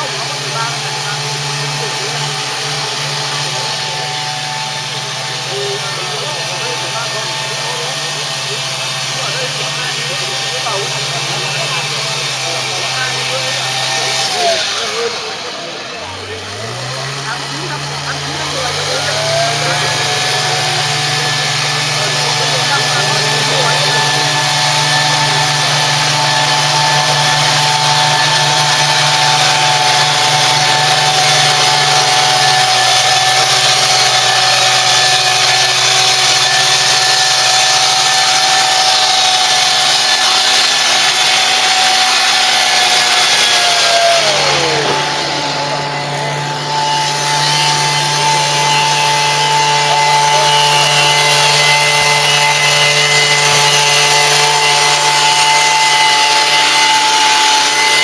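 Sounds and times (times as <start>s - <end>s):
tea plucking machine engine running: 0.0s - 58.0s.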